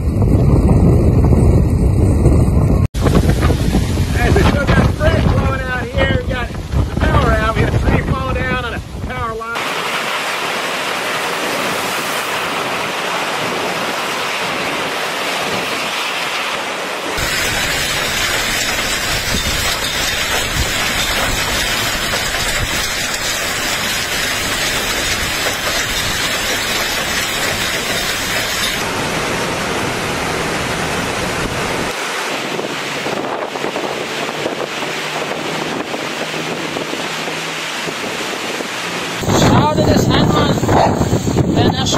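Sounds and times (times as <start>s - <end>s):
wind buffeting microphone: 0.0s - 9.5s, 17.1s - 41.9s
wind: 0.0s - 41.9s
rain: 2.9s - 41.9s
rushing water: 2.9s - 41.9s.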